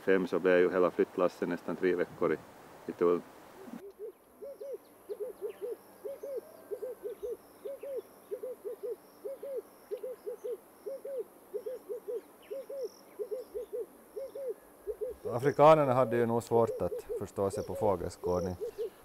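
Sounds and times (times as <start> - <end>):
small birds chirping faintly: 0.0 - 19.0
bird hooting low notes: 3.5 - 19.0.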